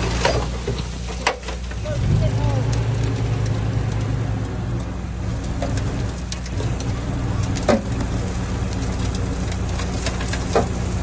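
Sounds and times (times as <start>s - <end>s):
diesel engine of heavy machinery: 0.0s - 11.0s.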